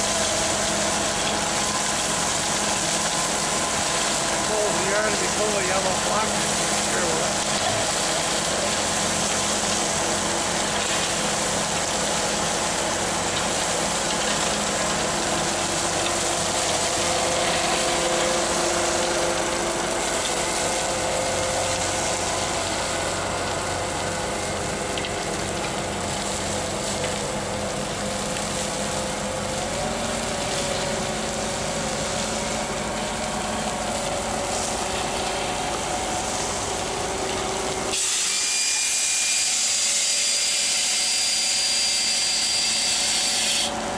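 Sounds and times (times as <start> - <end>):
truck engine running: 0.0 - 37.9
soil pouring: 0.0 - 38.4.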